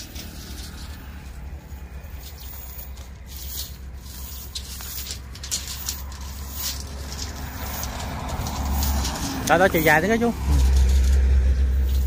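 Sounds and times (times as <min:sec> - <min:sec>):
low steady rumble: 0:00.0 - 0:12.0
net dragged over gravel: 0:00.0 - 0:12.0.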